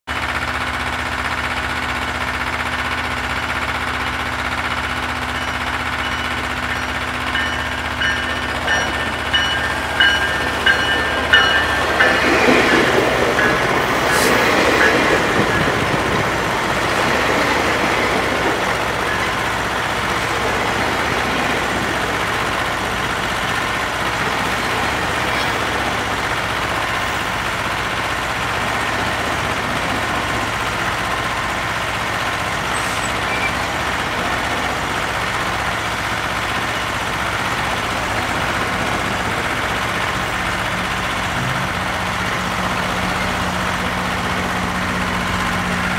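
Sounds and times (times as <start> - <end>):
heavy diesel engines running: 0.0 - 45.9.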